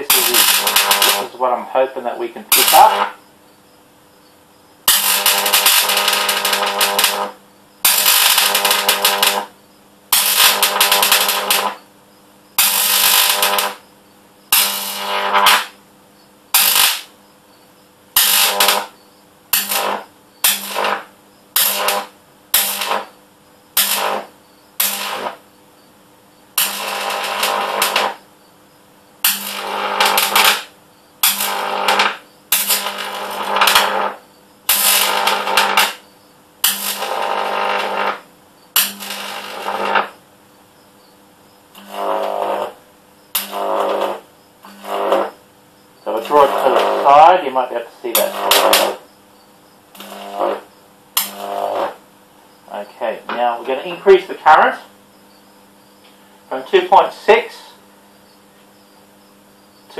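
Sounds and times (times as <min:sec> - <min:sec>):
electric arc buzzing crackle: 0:00.0 - 0:59.9
steady hum: 0:00.0 - 0:59.9.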